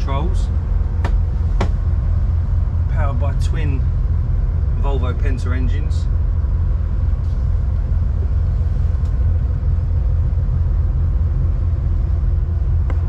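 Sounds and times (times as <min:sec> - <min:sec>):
boat engines rumbling: 0:00.0 - 0:13.0
faint steady hum: 0:00.0 - 0:13.0.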